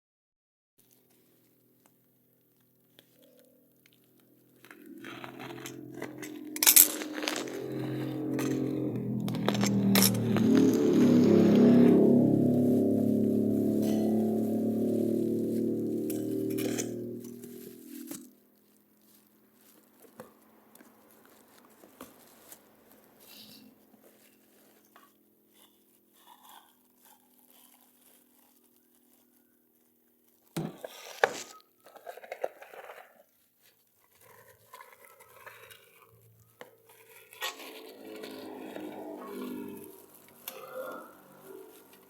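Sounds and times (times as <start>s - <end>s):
crinkling: 0.8s - 42.0s.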